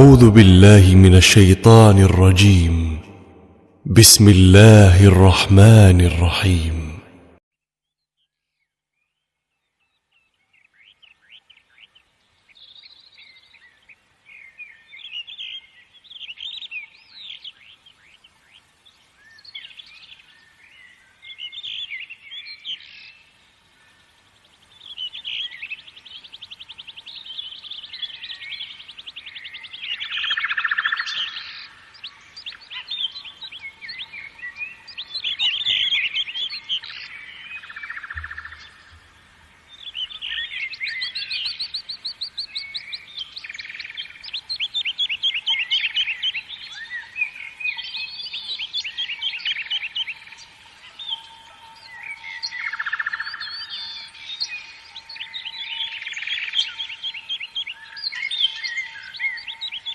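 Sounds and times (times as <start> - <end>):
birds singing and trilling: 8.2 - 59.9.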